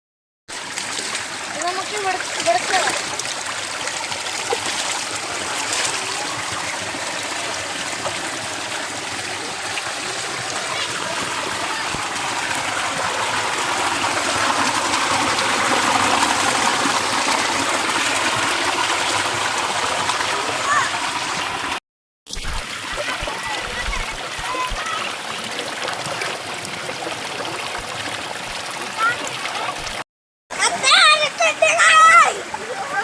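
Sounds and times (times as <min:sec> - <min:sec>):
waterfall rushing and splashing: 0:01.0 - 0:21.8, 0:22.7 - 0:30.0.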